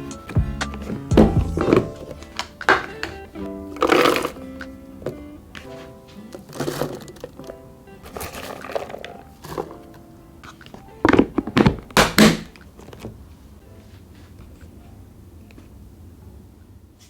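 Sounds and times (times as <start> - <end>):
soft background music: 0.0 - 15.6.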